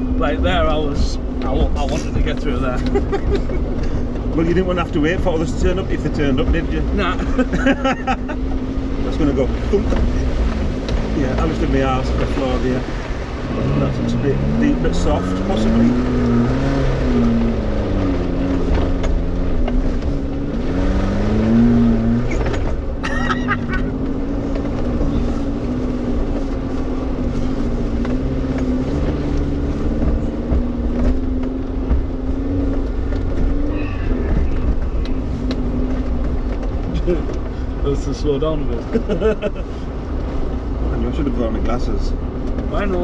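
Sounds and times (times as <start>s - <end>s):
car engine revving under load: 0.0s - 43.0s.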